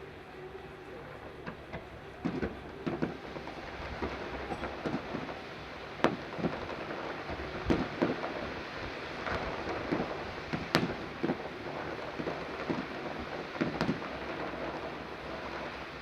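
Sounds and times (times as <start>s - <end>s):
fireworks crackling: 0.0s - 16.0s
fireworks booms: 1.4s - 16.0s.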